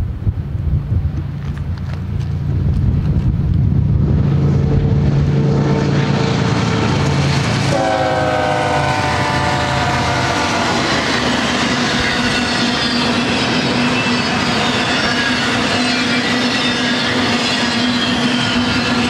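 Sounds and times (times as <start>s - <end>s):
diesel locomotives droning: 0.0s - 19.0s.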